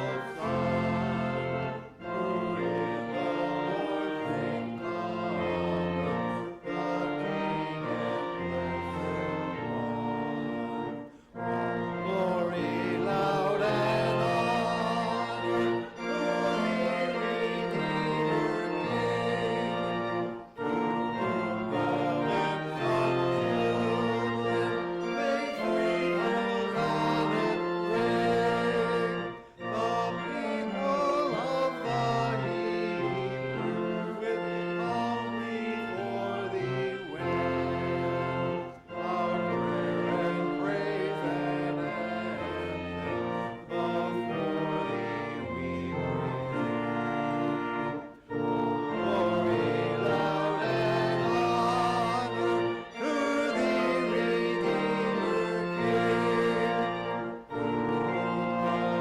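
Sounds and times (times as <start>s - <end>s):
church organ chords: 0.0s - 59.0s
congregation singing a hymn: 0.0s - 59.0s.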